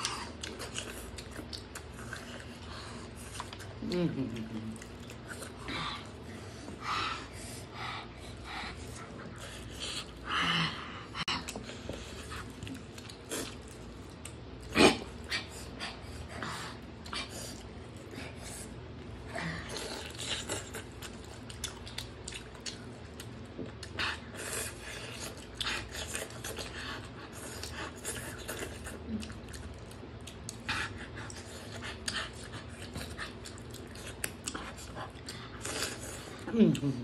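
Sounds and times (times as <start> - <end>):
wet eating smacks and chewing: 0.0 - 6.8, 11.2 - 37.0
steady low hum: 0.0 - 37.0.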